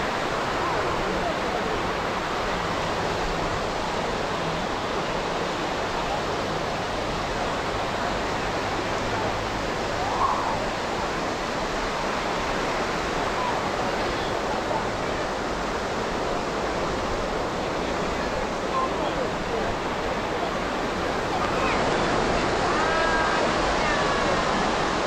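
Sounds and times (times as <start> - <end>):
ocean surf: 0.0 - 25.0.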